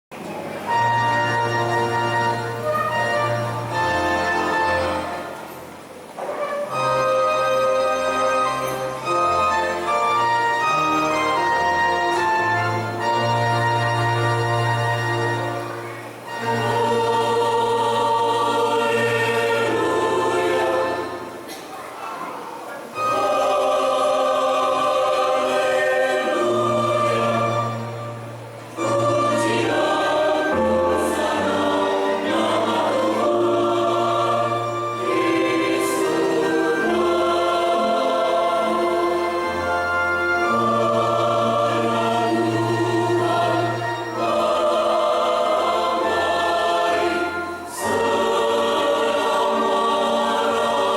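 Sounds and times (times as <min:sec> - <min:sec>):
choir singing a hymn: 0:00.2 - 0:50.9.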